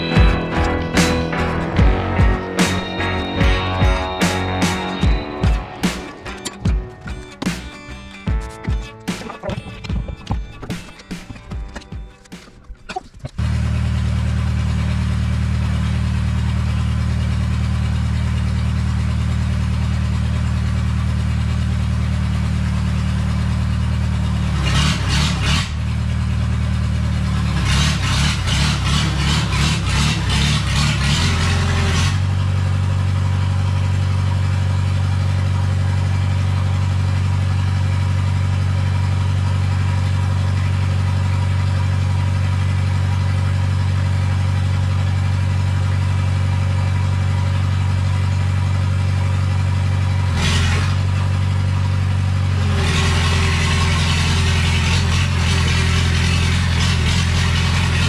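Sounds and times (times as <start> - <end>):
loud engine-like drone: 0.0 - 8.0, 13.4 - 48.5, 50.1 - 58.0
clatter: 9.1 - 58.0.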